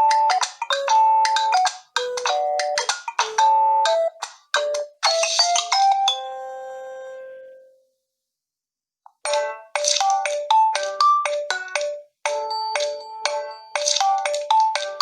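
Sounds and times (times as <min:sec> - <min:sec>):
phone ringtone melody: 0:00.0 - 0:07.7, 0:09.3 - 0:15.0.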